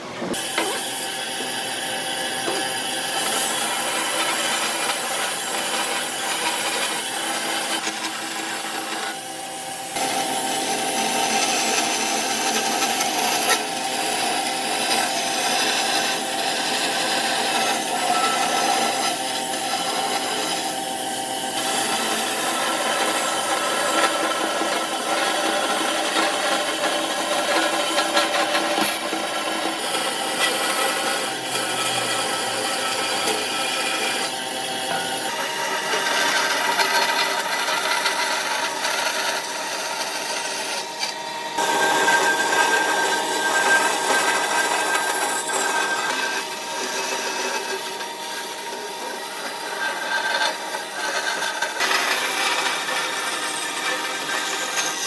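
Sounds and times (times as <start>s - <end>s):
power tool rasping wood: 0.2s - 55.0s.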